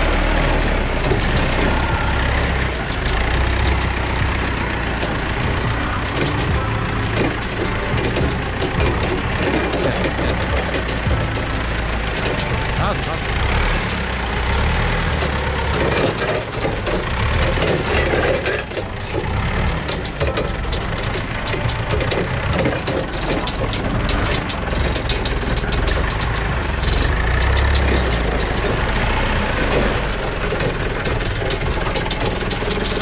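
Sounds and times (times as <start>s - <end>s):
forklift engine rumbling: 0.0s - 33.0s.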